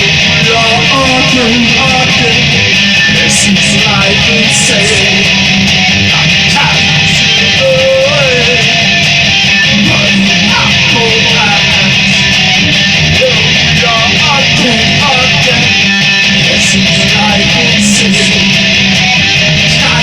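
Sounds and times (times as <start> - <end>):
guitar playing single notes: 0.0 - 20.0
sustained low notes: 0.0 - 20.0.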